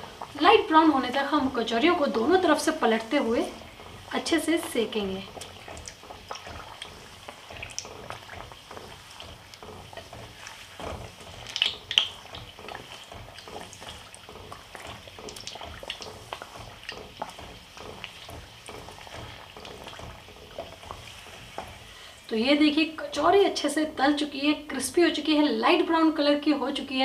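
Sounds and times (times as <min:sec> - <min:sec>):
food sizzling in hot oil: 0:00.0 - 0:23.6.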